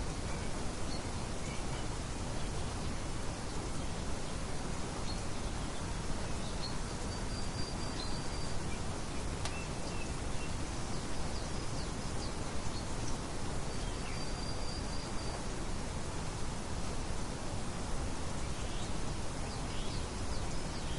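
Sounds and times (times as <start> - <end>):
outdoor ambience hiss: 0.0 - 20.9.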